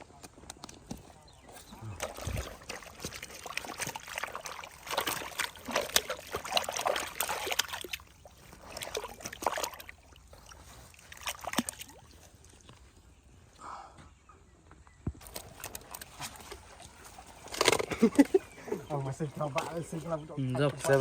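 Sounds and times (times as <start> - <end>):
water splashing and sloshing: 1.4 - 13.2, 15.2 - 21.0.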